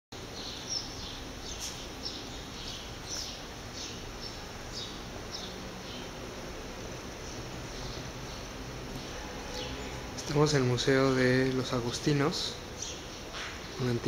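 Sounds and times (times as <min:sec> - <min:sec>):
low steady hum: 0:00.2 - 0:14.0
small birds chirping: 0:00.2 - 0:14.0.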